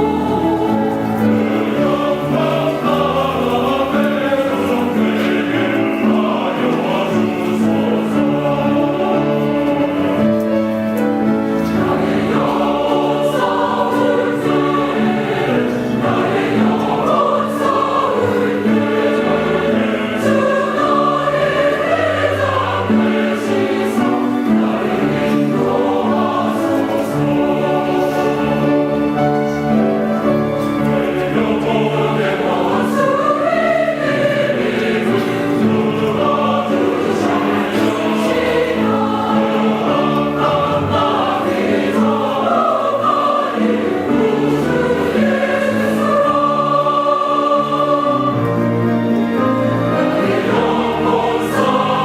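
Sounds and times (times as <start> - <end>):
church choir singing: 0.0 - 52.0.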